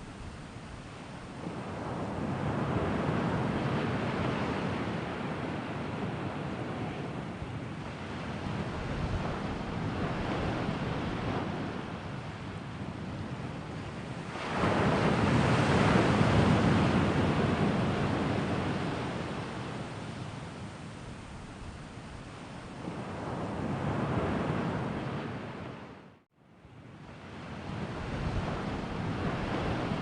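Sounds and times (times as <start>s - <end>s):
sea waves washing on shore: 0.0s - 25.8s, 27.1s - 30.0s.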